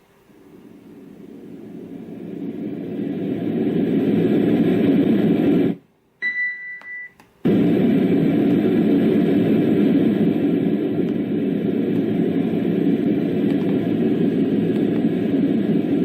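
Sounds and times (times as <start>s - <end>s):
white noise machine rumbling: 0.0s - 6.2s, 7.4s - 16.0s.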